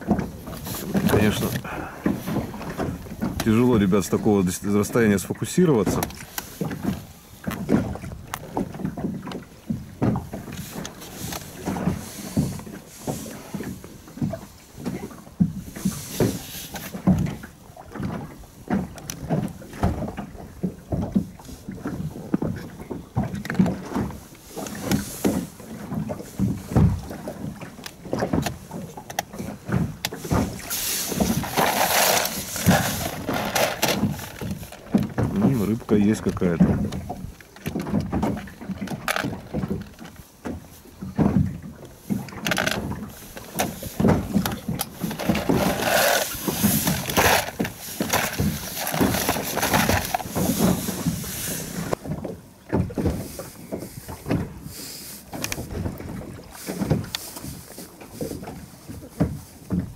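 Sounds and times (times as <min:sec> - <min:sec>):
waves slapping against boat hull: 0:00.0 - 0:59.9.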